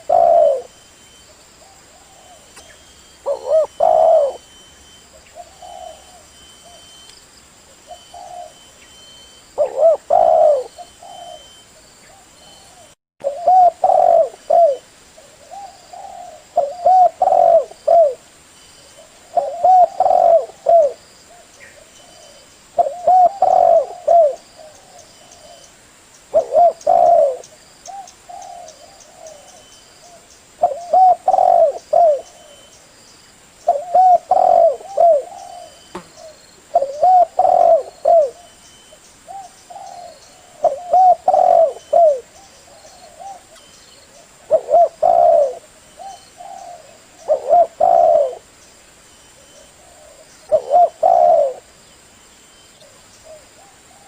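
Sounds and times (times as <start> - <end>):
dove cooing: 0.0 - 0.8, 1.6 - 6.9, 7.8 - 8.7, 9.6 - 18.2, 18.9 - 25.7, 26.3 - 32.7, 33.7 - 38.6, 39.3 - 48.5, 49.4 - 51.7.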